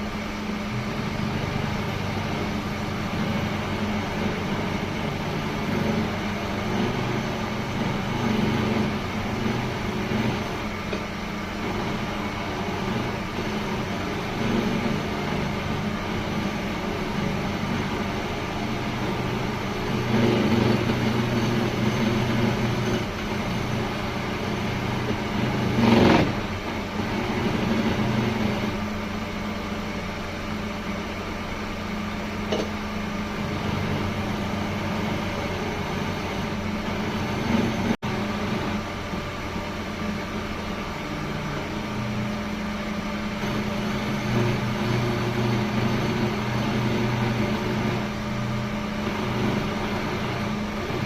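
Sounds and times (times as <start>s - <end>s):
electric motor humming: 0.0s - 29.4s, 33.0s - 51.0s.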